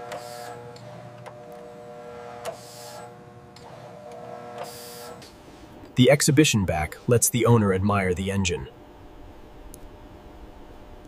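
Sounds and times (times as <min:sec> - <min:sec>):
small machine humming: 0:00.0 - 0:11.0.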